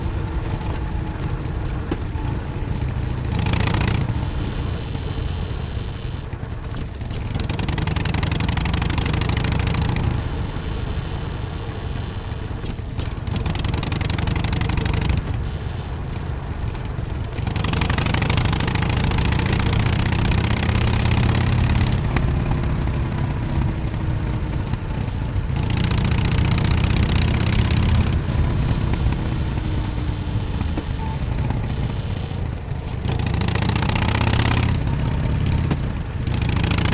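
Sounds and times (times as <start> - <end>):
motorcycle exhaust revving: 0.0 - 36.9.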